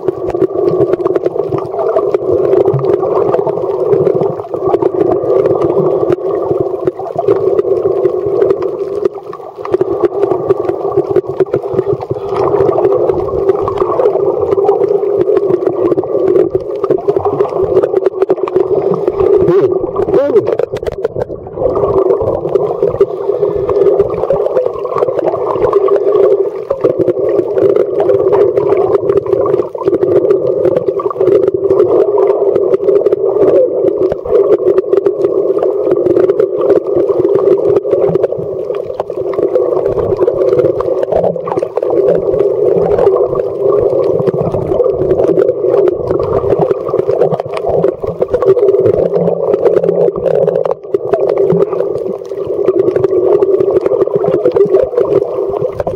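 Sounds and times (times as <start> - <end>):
crackling clicks: 0.0 - 55.9
underwater rumble: 0.0 - 55.9.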